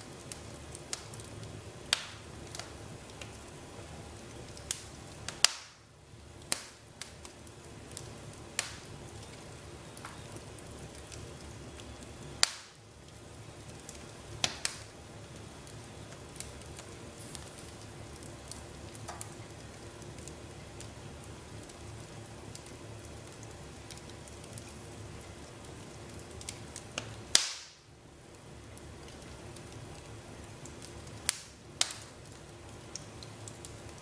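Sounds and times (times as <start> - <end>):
low hiss: 0.0 - 34.0
wood fire crackling and popping: 0.0 - 34.0.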